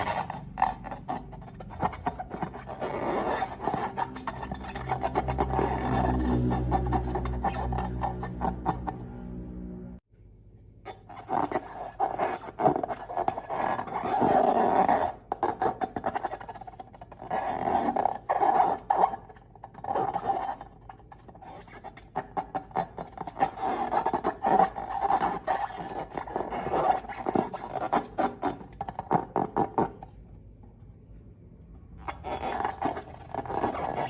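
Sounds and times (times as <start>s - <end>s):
rubber balloons squeaking: 0.0s - 9.1s, 10.9s - 30.1s, 32.0s - 34.0s.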